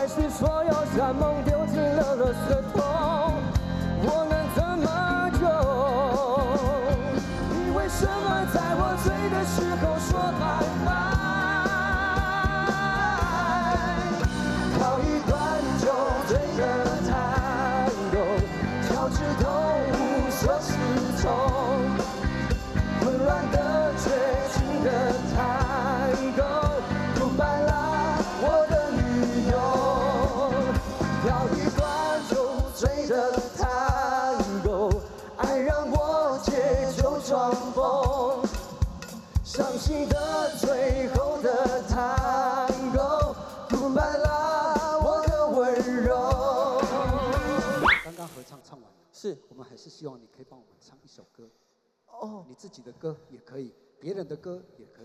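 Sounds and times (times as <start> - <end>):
amplified band playing: 0.0 - 48.2.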